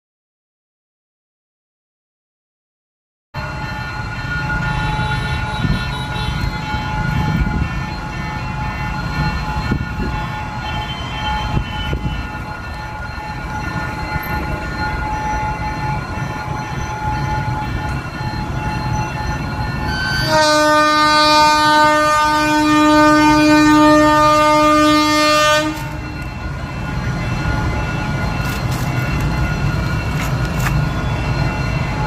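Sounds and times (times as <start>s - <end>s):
steady high tones ringing: 3.4s - 20.4s, 22.8s - 32.0s
diesel locomotive rumbling: 3.4s - 32.0s.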